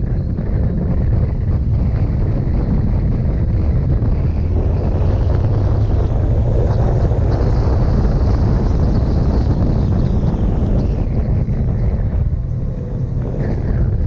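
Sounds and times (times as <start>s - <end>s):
motorcycle engine drone: 0.0s - 14.0s
road noise: 0.0s - 14.0s
wind noise on microphone: 0.0s - 14.0s.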